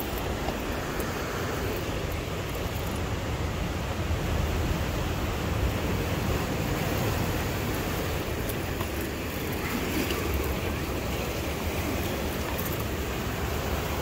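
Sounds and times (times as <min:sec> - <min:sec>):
surf on rocky shore: 0:00.0 - 0:14.0.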